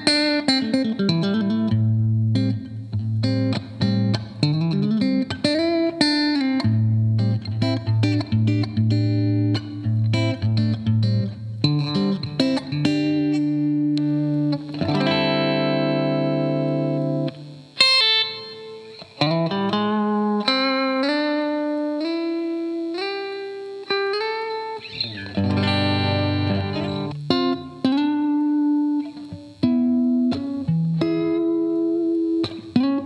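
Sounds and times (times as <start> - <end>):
electric guitar notes and chords: 0.0 - 33.0.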